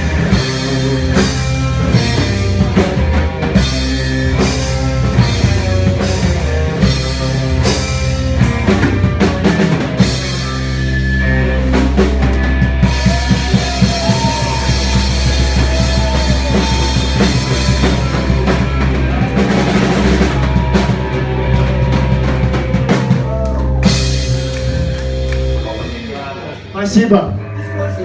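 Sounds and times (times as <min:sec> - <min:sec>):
bending guitar notes: 0:00.0 - 0:28.0
rock band playing instrumental: 0:00.0 - 0:28.0.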